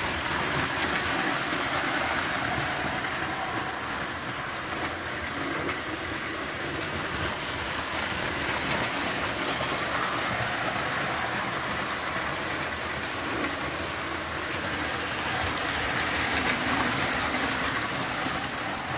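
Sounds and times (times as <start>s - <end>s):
metal wheels rattling on rails: 0.0s - 18.9s
toy train motors whirring: 0.0s - 18.9s.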